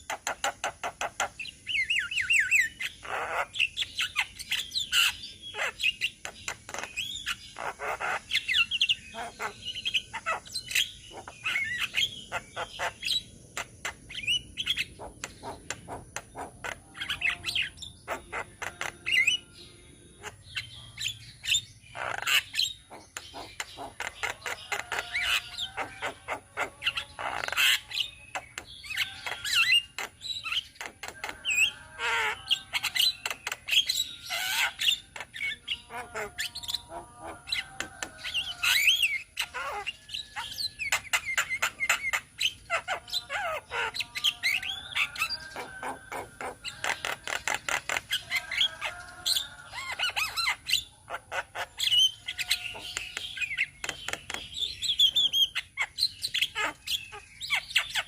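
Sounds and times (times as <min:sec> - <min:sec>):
birds chattering and squawking: 0:00.0 - 0:58.0.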